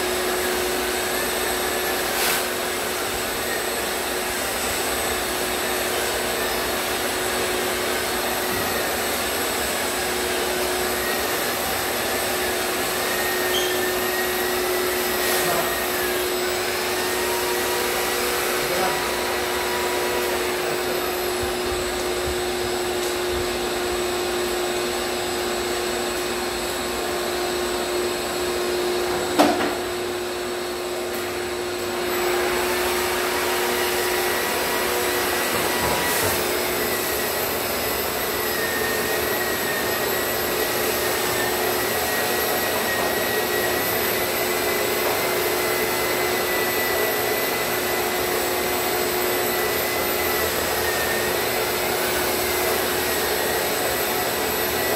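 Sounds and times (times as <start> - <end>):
drywall sander and vacuum humming: 0.0 - 54.9.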